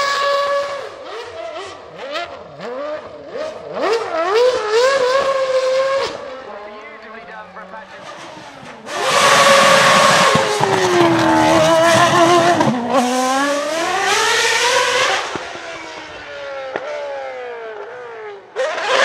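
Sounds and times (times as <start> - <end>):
racing car engine passing: 0.0 - 6.8, 7.5 - 19.0.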